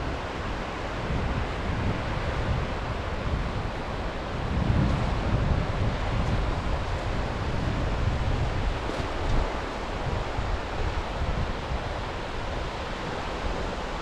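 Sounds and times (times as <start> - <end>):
sea waves washing ashore: 0.0 - 14.0
wind rumbling on microphone: 0.0 - 14.0.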